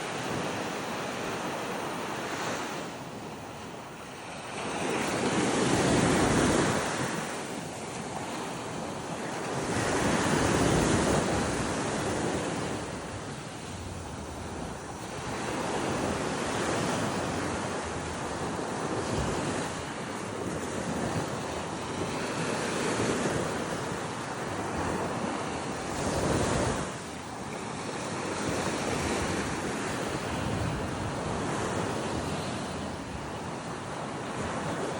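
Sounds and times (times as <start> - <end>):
ocean surf washing up beach: 0.0 - 34.9
wind buffeting microphone: 0.0 - 34.9.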